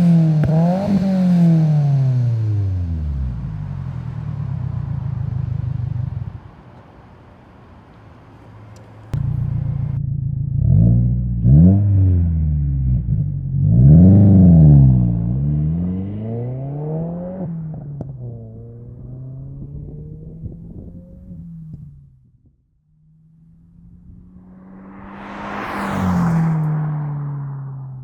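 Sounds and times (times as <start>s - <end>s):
car engine revving: 0.0s - 6.1s, 9.2s - 22.0s, 23.0s - 28.0s.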